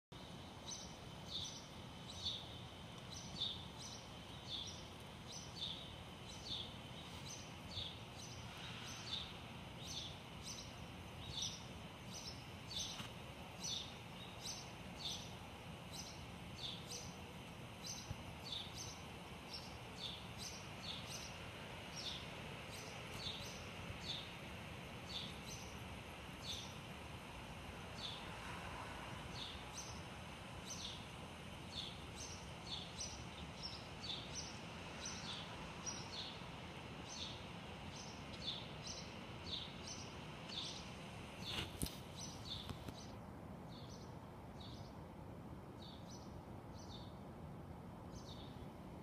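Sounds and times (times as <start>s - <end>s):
low city hum: 0.1s - 49.0s
small bird chirping: 0.2s - 24.4s, 29.4s - 45.0s.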